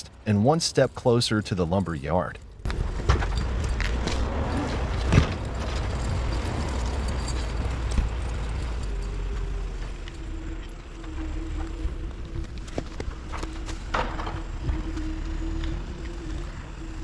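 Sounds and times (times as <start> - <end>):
steady whine: 2.4 - 17.0
diesel engine running: 2.6 - 17.0.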